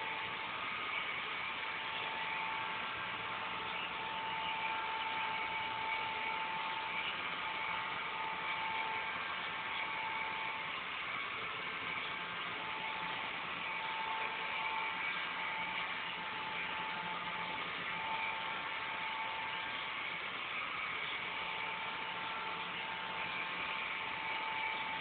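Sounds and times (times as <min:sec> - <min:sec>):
robot vacuum whirring: 0:00.0 - 0:25.0.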